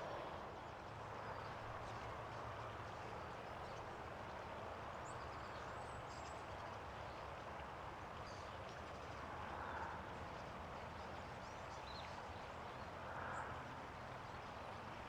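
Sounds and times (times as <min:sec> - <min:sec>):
outdoor background hiss and hum: 0:00.0 - 0:15.0.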